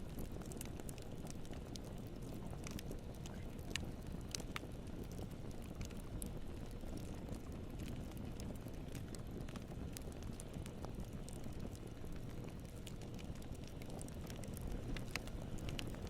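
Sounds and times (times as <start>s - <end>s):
campfire rumbling: 0.0s - 16.0s
crackles and pops of burning wood: 0.0s - 16.0s.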